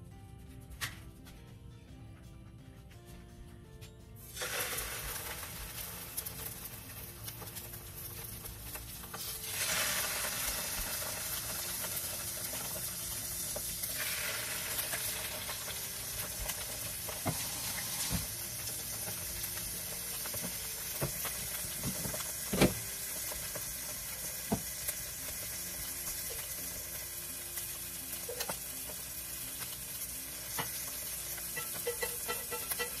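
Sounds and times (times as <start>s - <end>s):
fish sizzling in hot oil: 4.2s - 33.0s.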